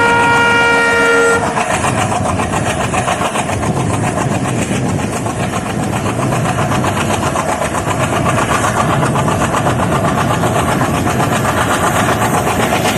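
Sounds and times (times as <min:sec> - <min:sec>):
locomotive diesel engine pulsing: 0:00.0 - 0:12.9.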